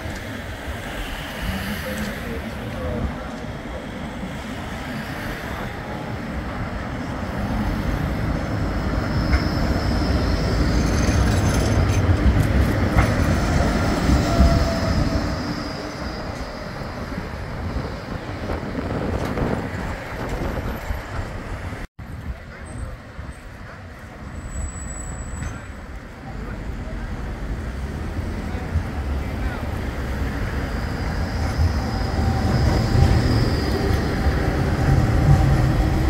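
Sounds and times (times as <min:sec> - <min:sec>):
tram rumbling past: 0:00.0 - 0:36.0.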